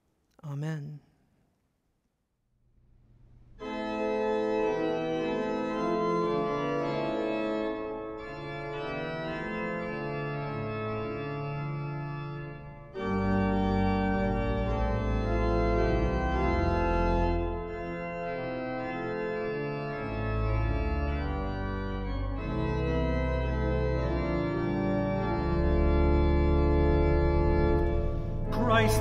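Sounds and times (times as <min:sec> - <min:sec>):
church organ chords: 0:03.5 - 0:29.0.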